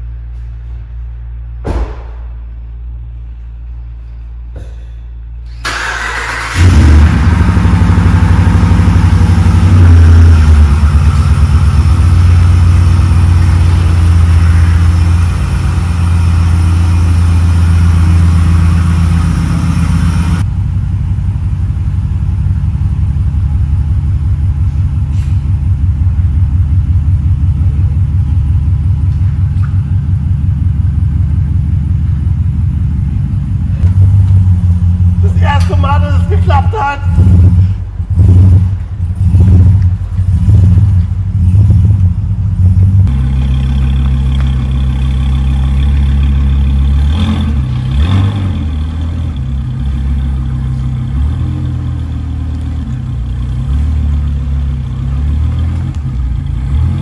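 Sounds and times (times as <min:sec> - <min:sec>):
engine idling rumble: 0:00.0 - 0:57.0
truck engine starting: 0:05.3 - 0:31.4, 0:32.0 - 0:57.0.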